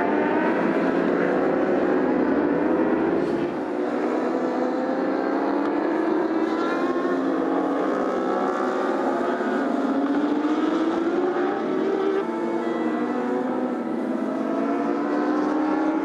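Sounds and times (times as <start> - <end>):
racing motorcycles at high revs: 0.0 - 16.0.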